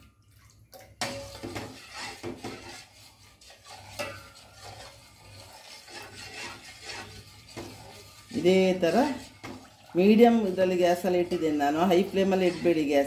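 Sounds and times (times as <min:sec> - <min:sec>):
spoon scraping and clinking in pot: 0:01.0 - 0:13.0.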